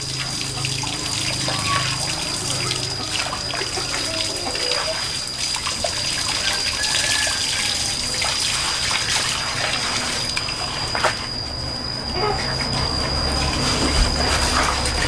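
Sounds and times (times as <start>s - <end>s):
water running and trickling: 0.0s - 15.0s.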